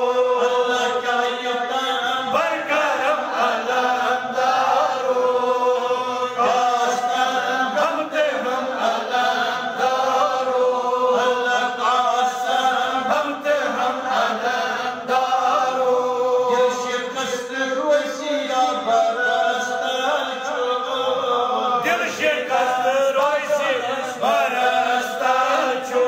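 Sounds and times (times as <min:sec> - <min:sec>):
voices in devotional chanting: 0:00.0 - 0:26.0.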